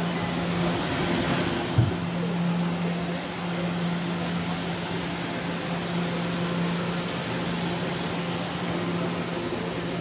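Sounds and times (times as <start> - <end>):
subway car air-conditioning humming: 0.0 - 10.0.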